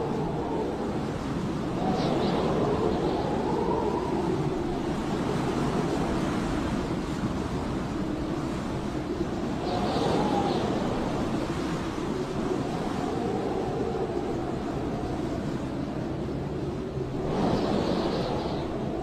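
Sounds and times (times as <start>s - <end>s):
blizzard wind howling: 0.0s - 19.0s.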